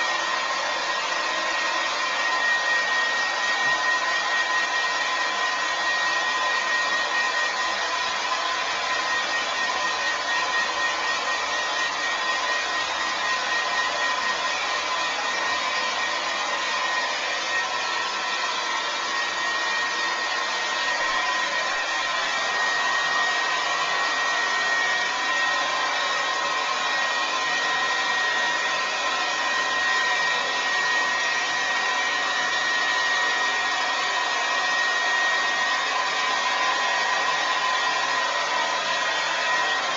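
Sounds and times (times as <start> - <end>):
hair dryer blowing with whine: 0.0 - 39.9.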